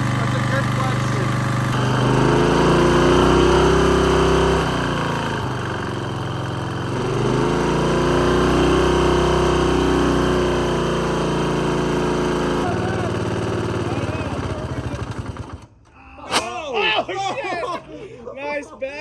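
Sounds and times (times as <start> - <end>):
lawn mower engine running: 0.0 - 15.8.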